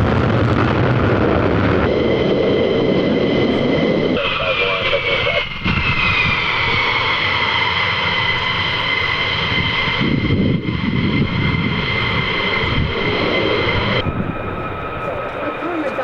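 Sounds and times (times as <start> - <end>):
deep rumble: 0.0 - 16.0
jet engine turbine whine: 0.0 - 16.0
jet noise rush: 1.0 - 16.0.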